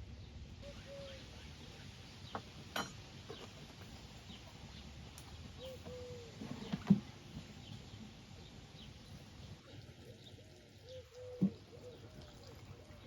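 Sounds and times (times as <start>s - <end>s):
small birds chirping: 0.1s - 2.6s, 3.2s - 13.0s.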